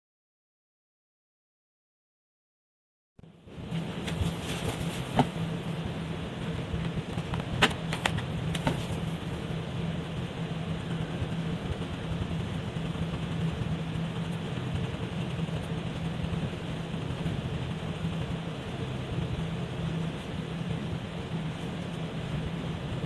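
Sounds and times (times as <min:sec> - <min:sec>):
steady low hum: 0:03.2 - 0:23.0.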